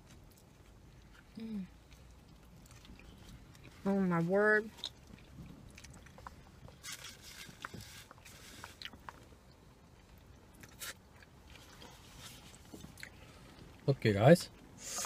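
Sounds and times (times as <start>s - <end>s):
people chewing: 0.0s - 3.9s, 4.6s - 13.9s.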